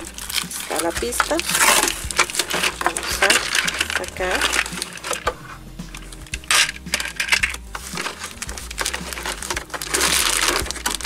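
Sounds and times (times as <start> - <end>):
cardboard and plastic pieces clattering: 0.0 - 11.0
clicks of plastic pieces: 0.0 - 11.0.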